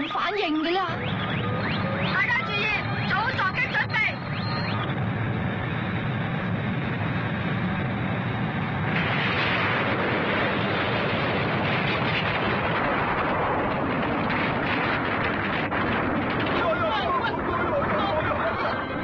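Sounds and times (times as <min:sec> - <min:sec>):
cartoon spaceship rumbling: 0:01.0 - 0:19.0.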